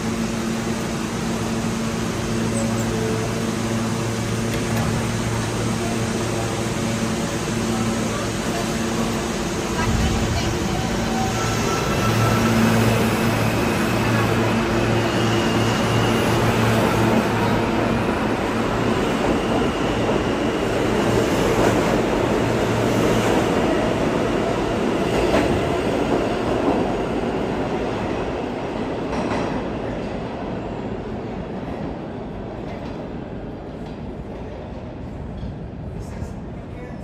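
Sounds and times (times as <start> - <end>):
train wheel rumble: 0.0 - 37.0.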